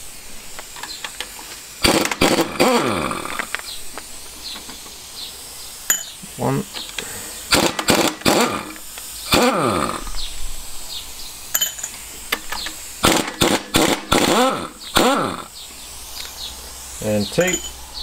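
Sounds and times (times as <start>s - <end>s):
pneumatic impact wrench: 0.0s - 18.0s.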